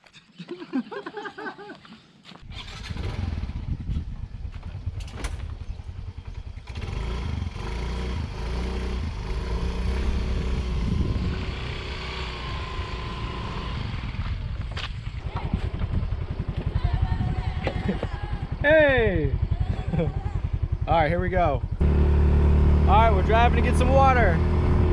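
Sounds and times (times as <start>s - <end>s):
motor scooter engine running: 2.6s - 14.4s, 15.2s - 24.9s.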